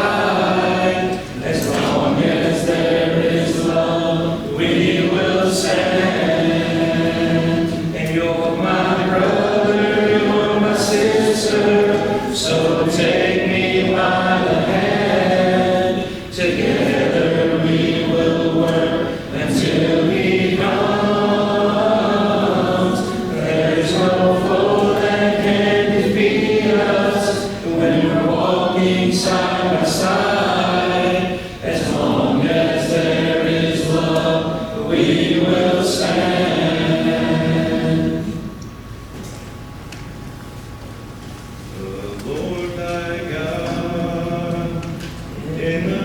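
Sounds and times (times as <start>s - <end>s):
congregation singing a hymn: 0.0s - 46.0s.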